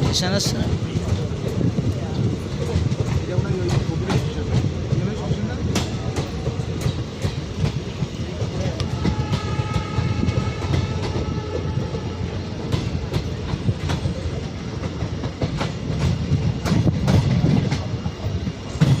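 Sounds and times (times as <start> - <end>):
train running on rails: 0.0 - 19.0
wheels clicking over rail joints: 0.0 - 19.0.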